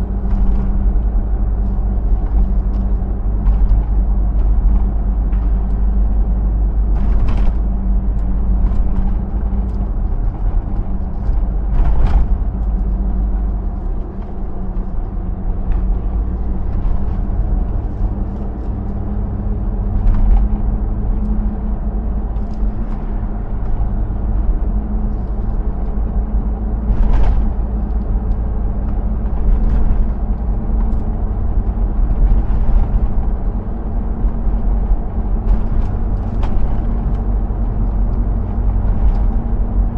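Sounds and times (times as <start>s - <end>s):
engine cruising with road rumble: 0.0s - 39.9s.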